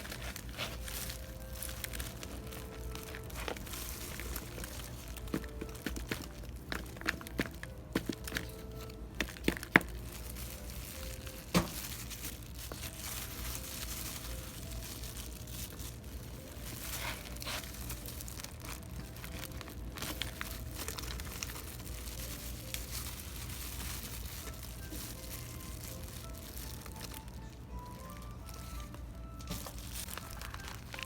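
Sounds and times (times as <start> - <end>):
rustling plants and soil: 0.0 - 31.0.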